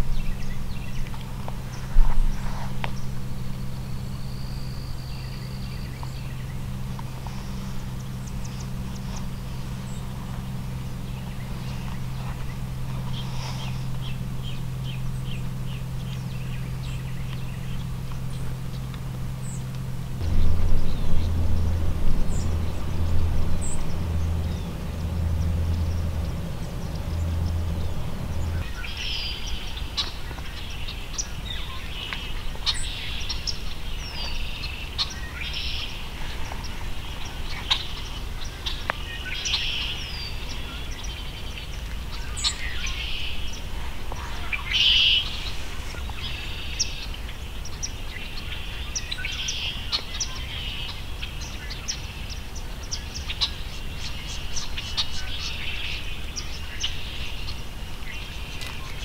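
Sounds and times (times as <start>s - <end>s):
low steady rumble: 0.0s - 59.0s
small birds chirping: 0.0s - 59.0s.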